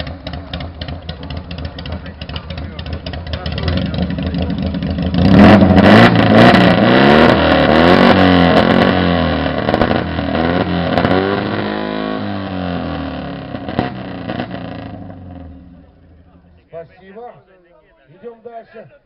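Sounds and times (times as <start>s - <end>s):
motorcycle revving: 0.0s - 16.4s.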